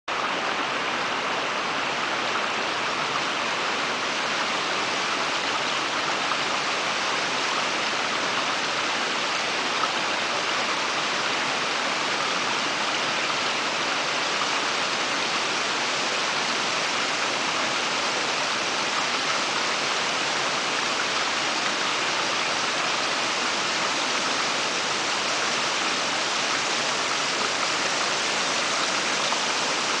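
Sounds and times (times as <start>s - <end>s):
creek water rushing: 0.1s - 30.0s.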